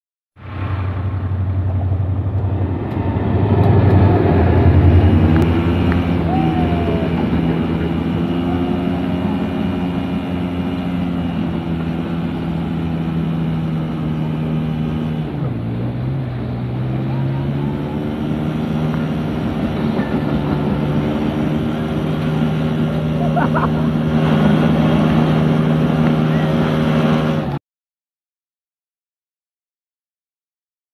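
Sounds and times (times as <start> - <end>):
train washing plant mechanical drone: 0.4 - 27.6.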